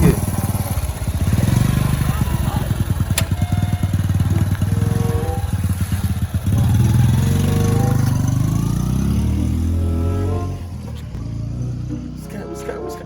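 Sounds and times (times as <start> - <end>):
motorcycle engine accelerating: 0.0 - 12.2.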